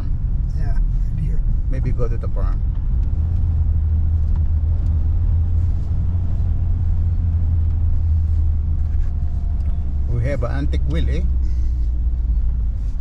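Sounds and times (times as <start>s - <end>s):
truck driving rumble: 0.0s - 13.0s.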